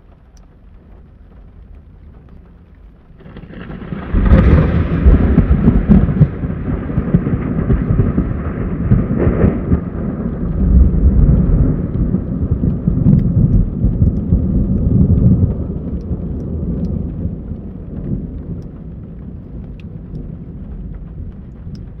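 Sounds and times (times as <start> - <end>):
raindrop ticks: 0.0 - 22.0
thunder rumbling: 0.0 - 22.0.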